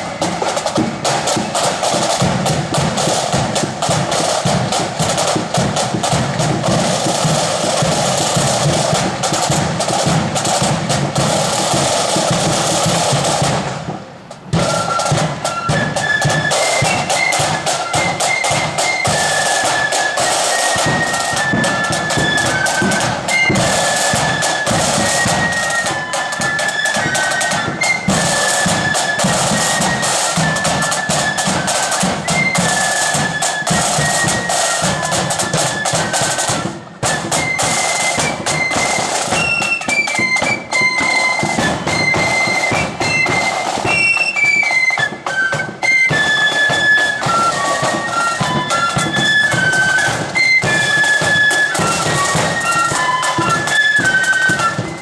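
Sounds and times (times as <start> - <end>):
flutes playing a tune: 0.0 - 55.0
snare drums: 0.0 - 55.0.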